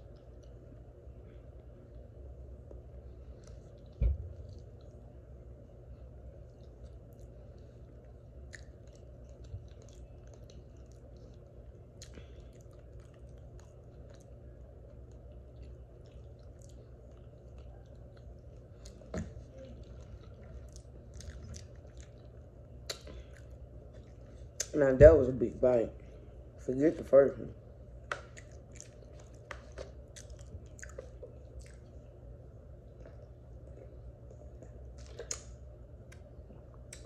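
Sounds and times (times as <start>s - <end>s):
person chewing food: 0.0s - 24.8s, 28.0s - 37.0s
low hum: 0.0s - 37.0s.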